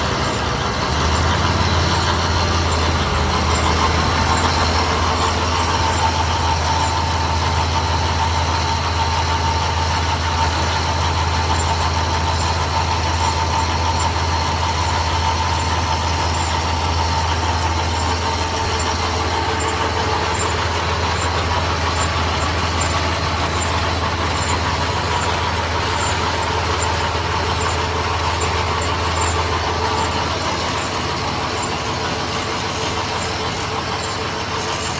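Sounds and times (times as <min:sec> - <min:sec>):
machinery whine: 0:00.0 - 0:34.9
tractor engine drone: 0:00.0 - 0:34.9.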